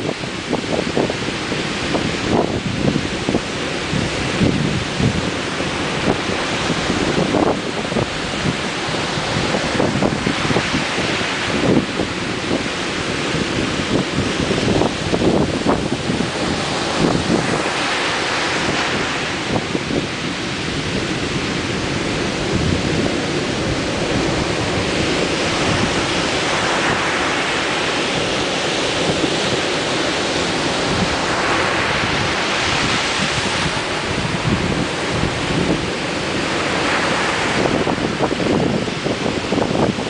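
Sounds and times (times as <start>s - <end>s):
ocean surf breaking: 0.0s - 40.0s
wind buffeting microphone: 0.0s - 40.0s.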